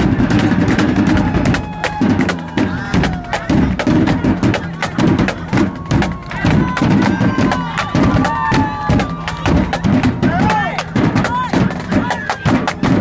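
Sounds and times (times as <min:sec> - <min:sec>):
bass drum beats: 0:00.0 - 0:13.0.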